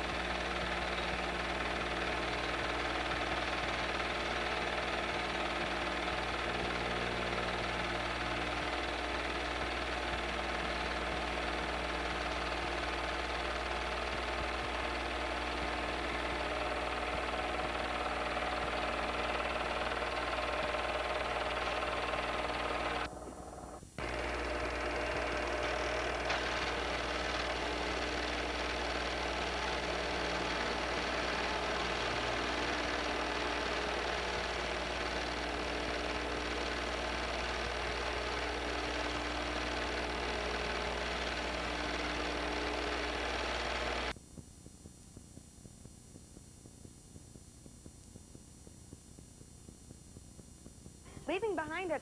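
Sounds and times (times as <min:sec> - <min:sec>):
film projector whirring: 0:00.0 - 0:52.0.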